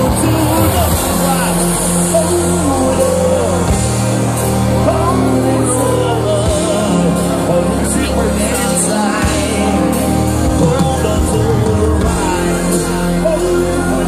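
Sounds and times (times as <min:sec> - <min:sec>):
loud live band music: 0:00.0 - 0:14.0
person singing: 0:00.0 - 0:14.0.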